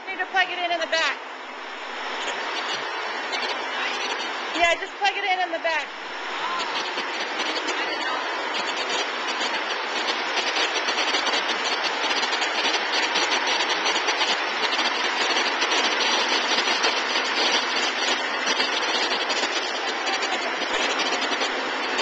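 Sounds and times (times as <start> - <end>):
embroidery machines clattering: 2.0 - 22.0.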